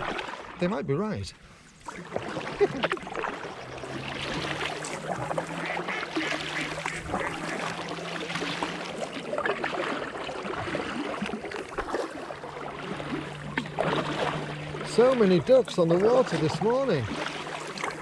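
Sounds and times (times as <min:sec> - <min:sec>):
paddle dipping in water: 0:00.0 - 0:00.6, 0:01.4 - 0:18.0
water splashing and trickling: 0:00.0 - 0:00.7, 0:01.6 - 0:18.0
water lapping around kayak: 0:00.0 - 0:18.0.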